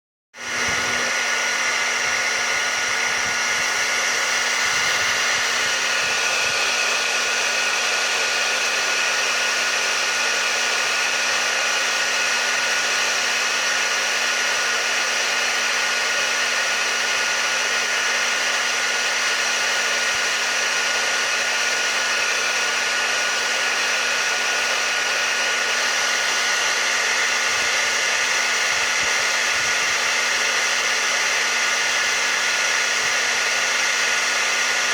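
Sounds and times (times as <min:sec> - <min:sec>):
hair dryer running: 0:00.4 - 0:34.9.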